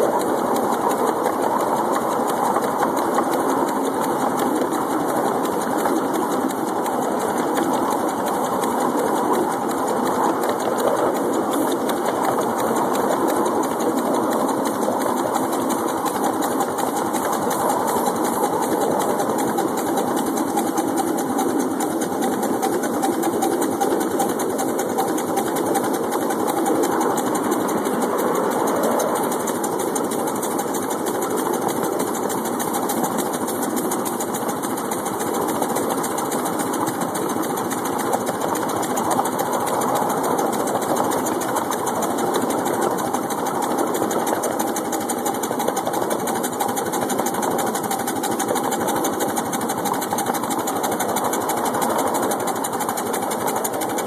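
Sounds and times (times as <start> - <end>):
miniature steam locomotive chattering: 0.0 - 54.0.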